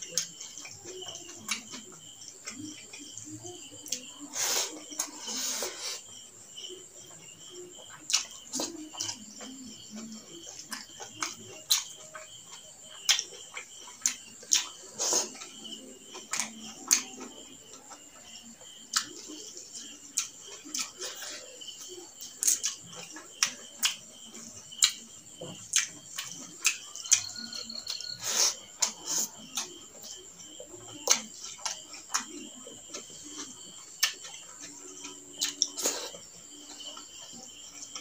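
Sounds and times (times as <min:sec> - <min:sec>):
wet chewing: 0:00.0 - 0:38.0.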